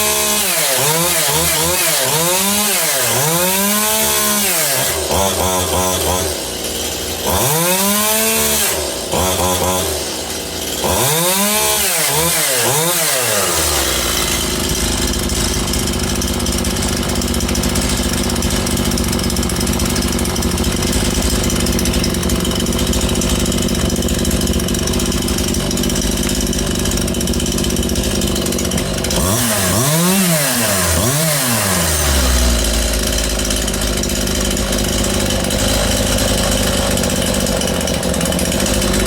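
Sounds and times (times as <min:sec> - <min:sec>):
chainsaw engine idling and revving: 0:00.0 - 0:39.0.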